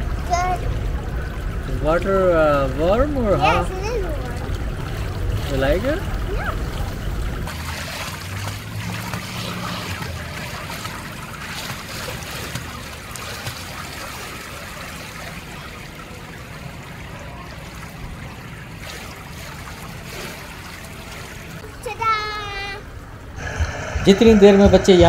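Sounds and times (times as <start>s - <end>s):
pool water splashing and lapping: 0.0s - 25.0s.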